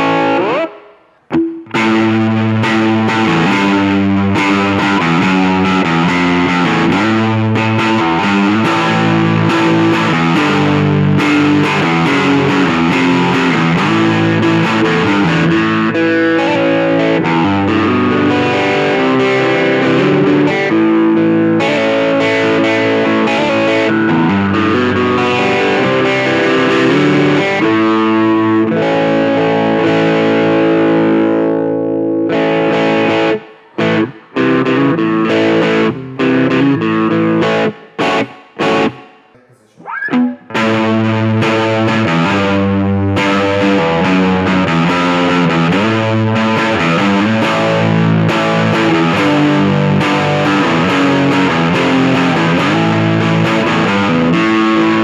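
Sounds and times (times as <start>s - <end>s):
distorted electric guitar riffs: 0.0s - 55.0s.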